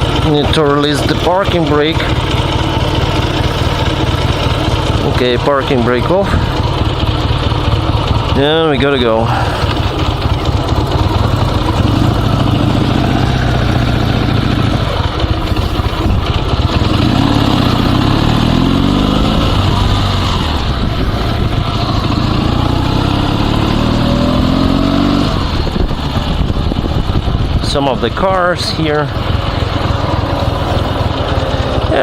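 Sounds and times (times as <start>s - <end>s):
motorcycle engine pulling away: 0.0s - 28.2s, 29.0s - 32.0s.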